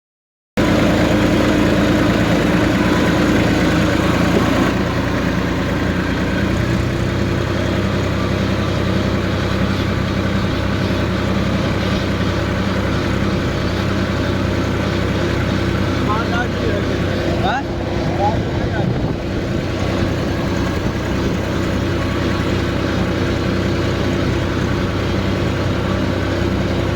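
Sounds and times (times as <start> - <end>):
tractor engine running: 0.6 - 26.9.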